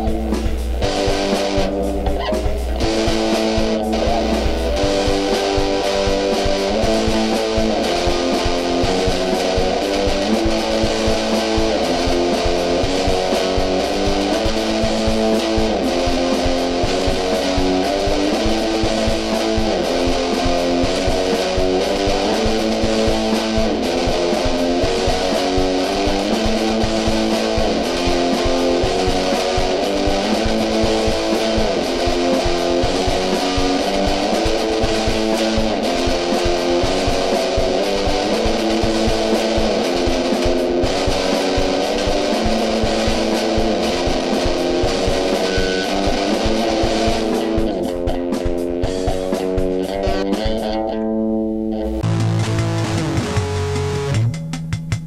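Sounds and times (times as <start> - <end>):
guitar-driven band music: 0.0 - 55.0.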